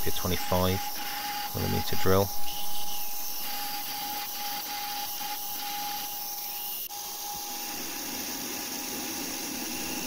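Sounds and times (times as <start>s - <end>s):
lathe whine: 0.0s - 10.0s.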